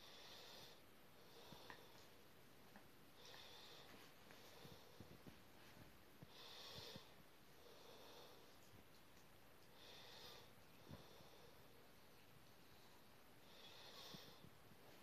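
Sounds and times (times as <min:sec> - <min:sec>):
faint breathing: 0:00.0 - 0:02.2, 0:03.1 - 0:08.7, 0:09.6 - 0:15.0.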